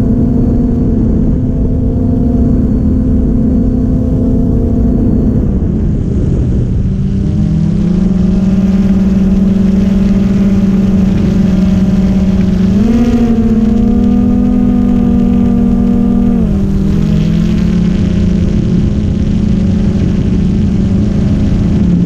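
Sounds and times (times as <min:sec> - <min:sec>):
ambient synth chords: 0:00.0 - 0:22.0.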